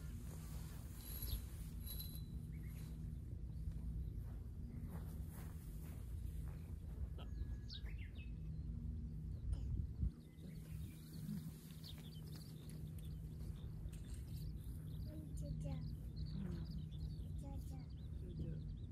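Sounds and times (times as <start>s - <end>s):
steady low hum: 0.0s - 18.9s
wind buffeting microphone: 0.0s - 18.9s
bird chirps: 0.9s - 4.3s, 6.4s - 8.7s, 9.3s - 18.9s.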